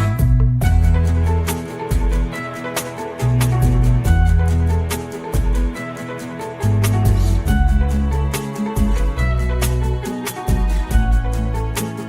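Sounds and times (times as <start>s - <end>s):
background music with guitar and drums: 0.0s - 12.0s.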